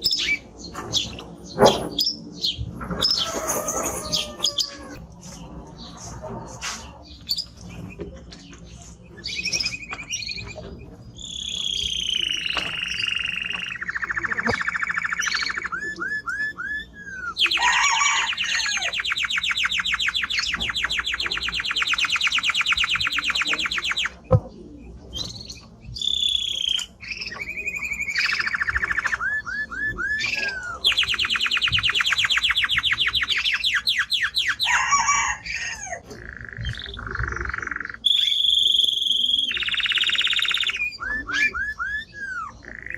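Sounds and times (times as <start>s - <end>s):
canary singing with trills: 0.0s - 42.9s.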